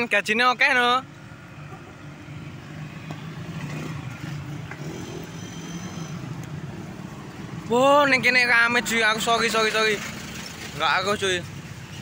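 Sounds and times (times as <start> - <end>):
cars and motorcycles passing: 0.0 - 12.0.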